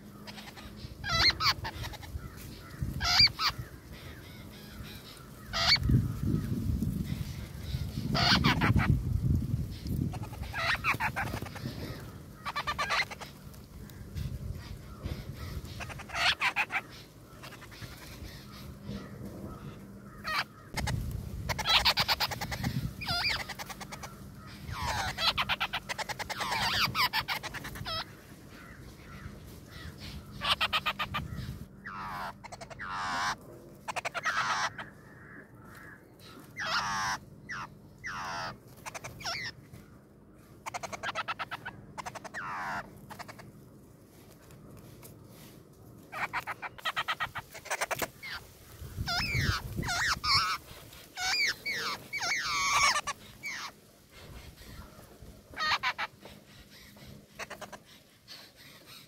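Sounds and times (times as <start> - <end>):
nestling birds chattering: 0.0 - 59.0.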